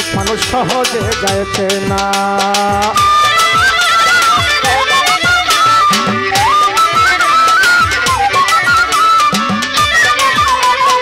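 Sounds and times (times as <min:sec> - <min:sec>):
hand drum strokes: 0:00.0 - 0:11.0
violin melody: 0:00.0 - 0:11.0.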